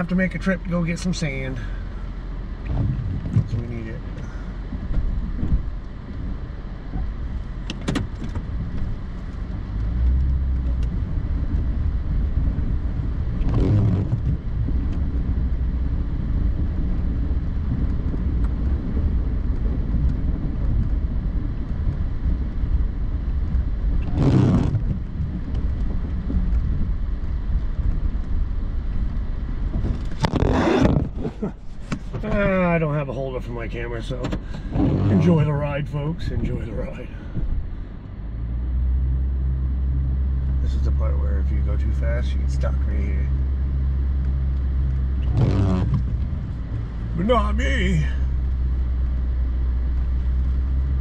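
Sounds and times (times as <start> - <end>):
pickup truck engine rumble: 0.0 - 51.0.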